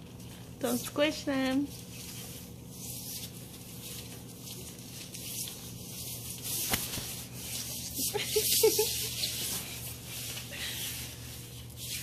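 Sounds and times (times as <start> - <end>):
fabric rustling and rubbing: 0.6 - 12.0.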